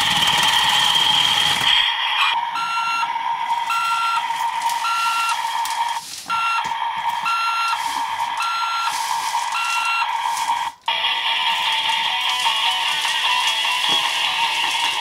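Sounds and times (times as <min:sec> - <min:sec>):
toy electronic hum: 0:00.0 - 0:15.0.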